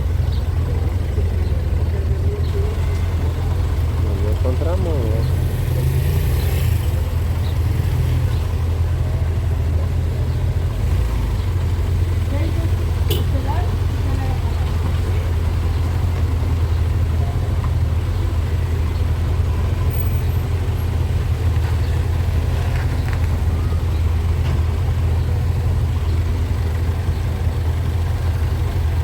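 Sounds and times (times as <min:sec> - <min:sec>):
motorcycle engine rumble: 0:00.0 - 0:29.0.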